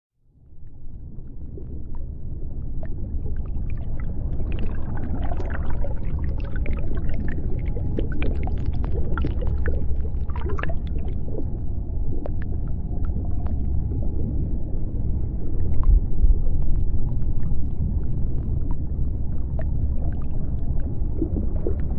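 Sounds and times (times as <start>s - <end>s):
deep underwater rumble: 0.2s - 21.9s.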